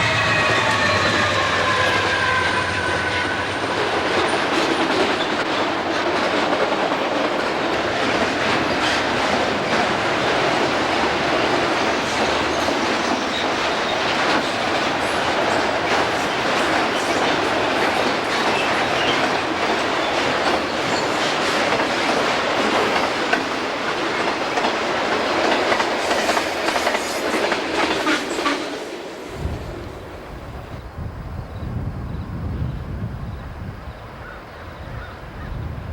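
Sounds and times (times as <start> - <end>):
railroad cars rolling past: 0.0 - 35.9.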